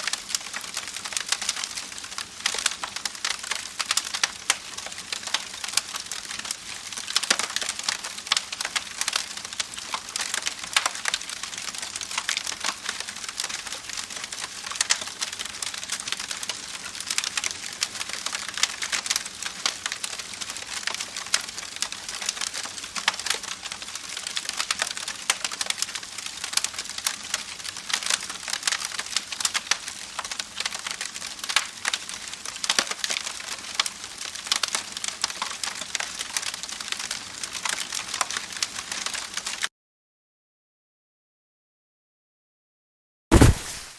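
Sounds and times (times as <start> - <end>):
campfire crackling: 0.0 - 39.7.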